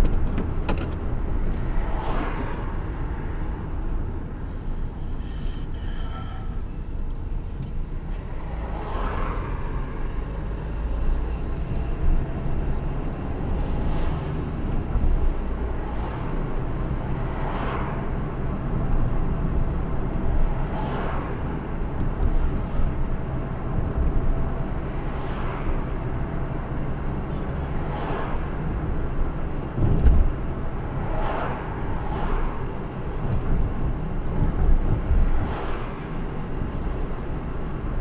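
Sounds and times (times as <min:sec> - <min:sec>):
car engine and road rumble: 0:00.0 - 0:38.0
vehicles whooshing past: 0:01.0 - 0:04.2, 0:08.1 - 0:10.9, 0:13.0 - 0:38.0.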